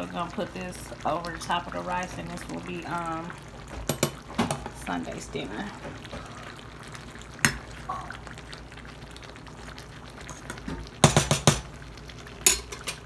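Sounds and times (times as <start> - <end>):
stew simmering in a pot: 0.0 - 13.0.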